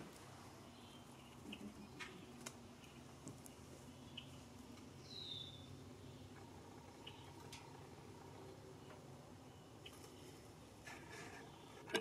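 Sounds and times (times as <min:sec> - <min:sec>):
background hum: 0:00.0 - 0:12.0
faint bird chirps: 0:00.6 - 0:11.9.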